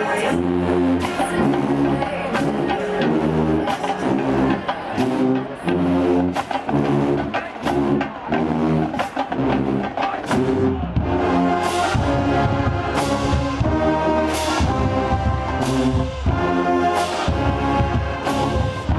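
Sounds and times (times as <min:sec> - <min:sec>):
marching band brass chords: 0:00.0 - 0:18.9
percussion hits: 0:00.3 - 0:18.9.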